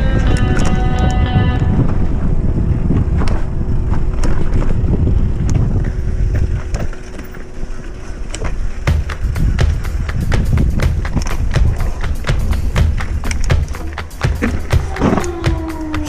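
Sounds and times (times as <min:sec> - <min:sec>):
wind rumble on microphone: 0:00.0 - 0:16.0
bike knocking and clattering: 0:02.8 - 0:16.0.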